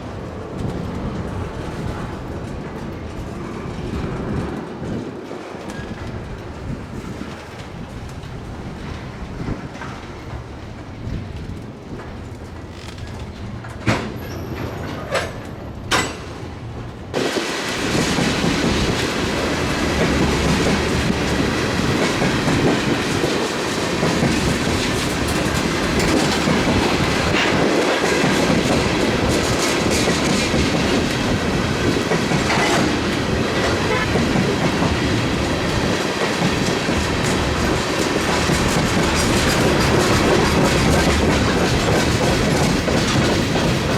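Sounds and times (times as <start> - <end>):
freight train rolling past: 0.0 - 43.9
train cars rattling: 0.0 - 43.9
train wheels clacking: 0.1 - 43.9.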